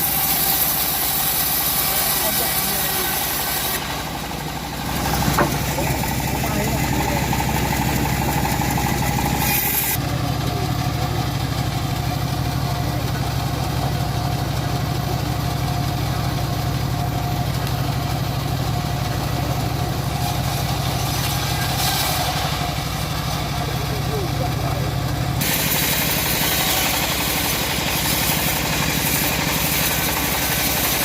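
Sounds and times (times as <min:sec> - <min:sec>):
band sawmill droning: 0:00.0 - 0:31.0.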